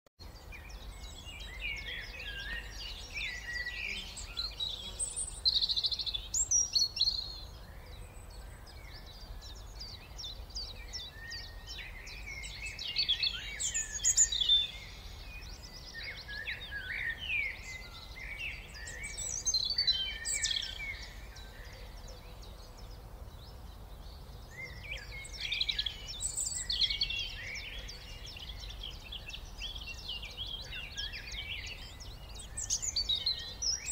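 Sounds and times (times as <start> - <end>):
songbirds chirping and twittering: 0.2 - 33.9.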